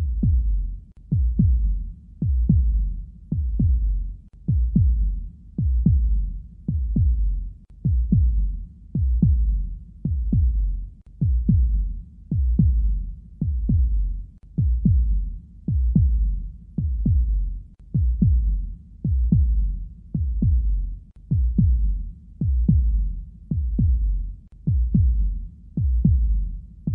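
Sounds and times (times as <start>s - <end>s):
heartbeat double thump: 0.0s - 0.5s, 1.1s - 3.9s, 4.5s - 7.3s, 7.9s - 8.4s, 9.0s - 10.6s, 11.2s - 14.0s, 14.6s - 18.5s, 19.1s - 19.6s, 20.2s - 24.1s, 24.7s - 26.9s.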